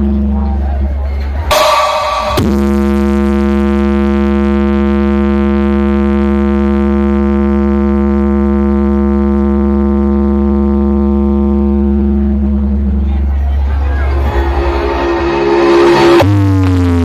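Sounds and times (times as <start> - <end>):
heavy deep bass: 0.0 - 17.0
loud sound system drone note: 1.4 - 17.0.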